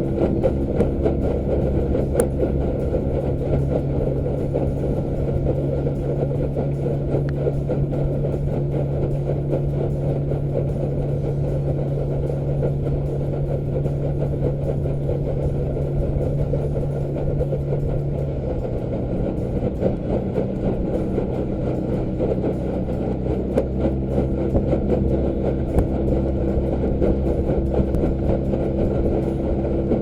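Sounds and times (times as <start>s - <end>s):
small boat motor running: 0.0s - 30.0s.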